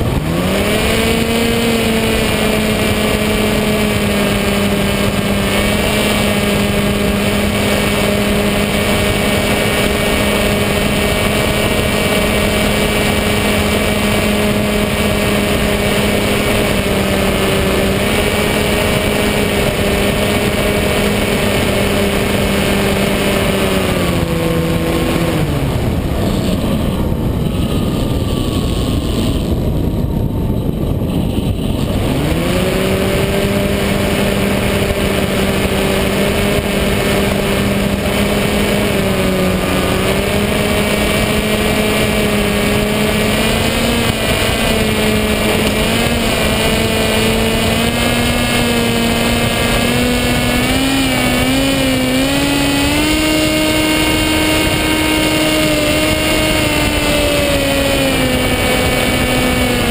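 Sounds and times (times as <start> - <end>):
electric motor and propeller whine: 0.0 - 59.9.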